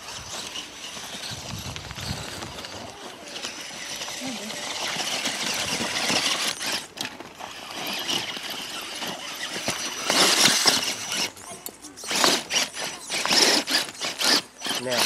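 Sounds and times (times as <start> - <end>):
electric motor and gears whining: 0.0 - 15.0
toy truck scraping on obstacles: 0.0 - 15.0.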